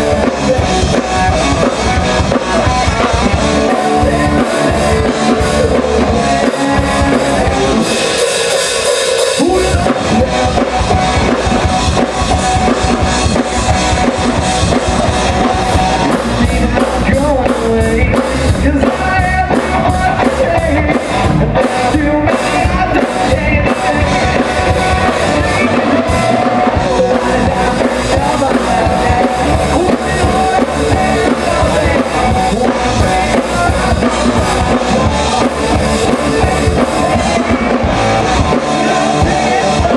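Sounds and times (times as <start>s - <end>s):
bass guitar: 0.0s - 39.9s
drum kit: 0.0s - 39.9s
electric guitar: 0.0s - 39.9s
lead vocals: 0.0s - 39.9s.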